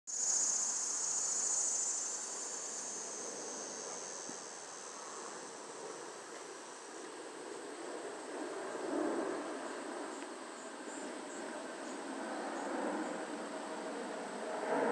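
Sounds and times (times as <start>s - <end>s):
insects droning: 0.1s - 14.9s.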